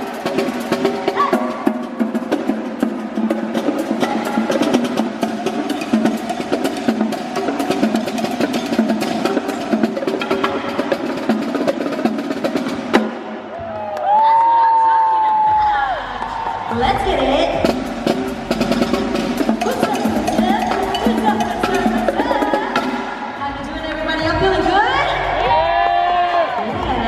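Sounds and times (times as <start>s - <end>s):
drums and sticks rapid strikes: 0.0s - 13.9s, 15.4s - 27.0s.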